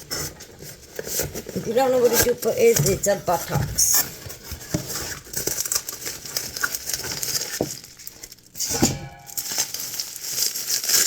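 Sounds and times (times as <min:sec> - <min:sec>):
packaging rustling and rattling: 0:00.0 - 0:11.0.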